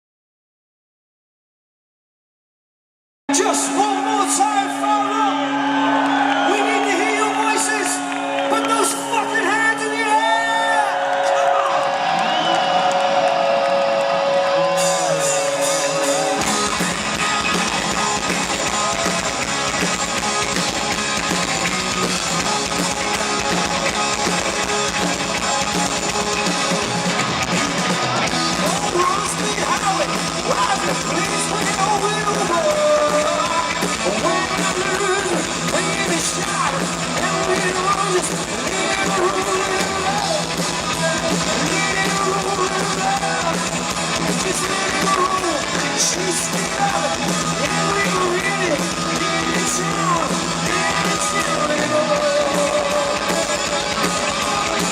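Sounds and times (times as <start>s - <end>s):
heavy metal band playing live: 3.3s - 10.9s, 11.6s - 54.9s.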